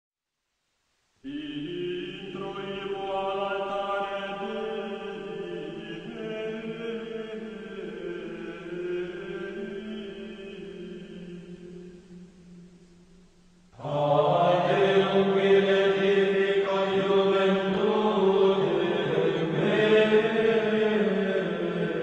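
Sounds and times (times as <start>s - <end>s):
voices chanting long notes: 1.2s - 12.8s, 13.7s - 22.0s.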